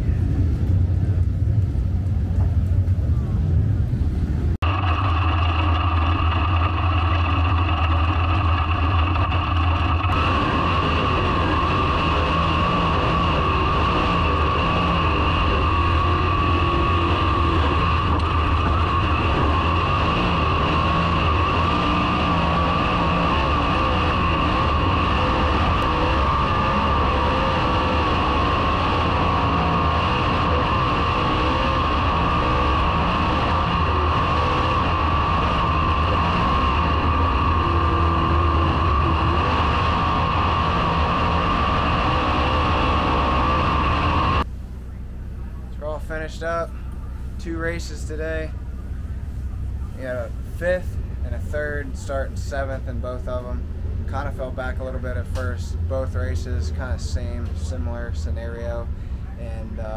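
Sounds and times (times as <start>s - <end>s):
vehicle engine running steadily: 0.0s - 59.9s.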